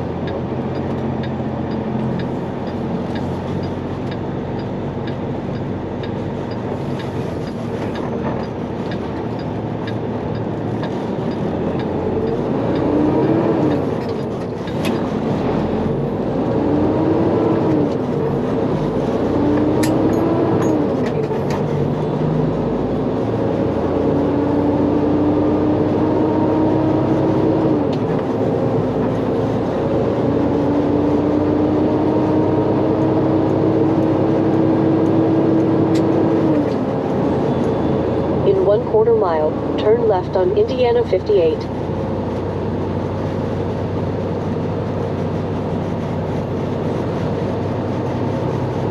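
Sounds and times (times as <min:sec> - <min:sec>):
truck diesel engine from cab: 0:00.0 - 0:48.9.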